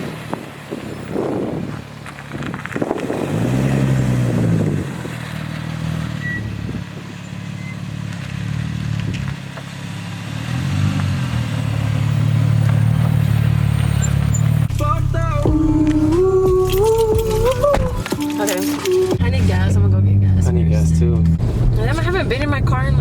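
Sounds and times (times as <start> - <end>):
car engine running and revving: 0.0 - 23.0.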